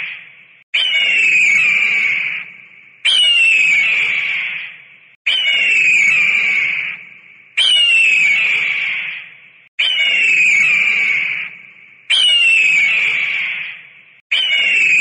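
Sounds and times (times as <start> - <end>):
bird of prey screaming: 0.0 - 15.0.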